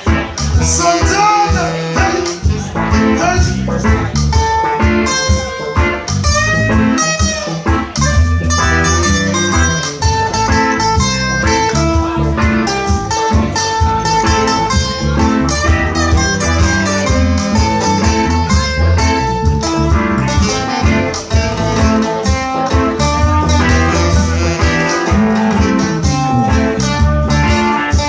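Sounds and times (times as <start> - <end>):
guitar plucking and strumming: 0.0 - 28.0
steady bass line: 0.0 - 28.0.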